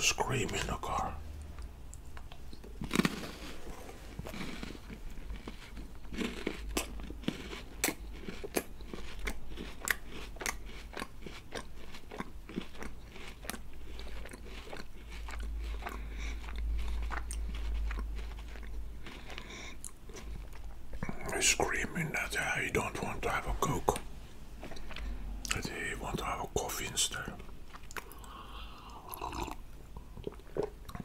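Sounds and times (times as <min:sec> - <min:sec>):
crunchy chocolate wafer chewing: 0:00.0 - 0:31.0.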